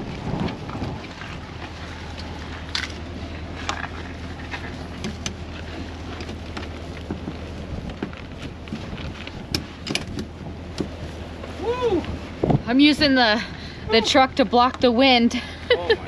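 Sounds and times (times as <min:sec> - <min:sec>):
truck engine running: 0:00.0 - 0:16.0
wind noise: 0:00.0 - 0:16.0.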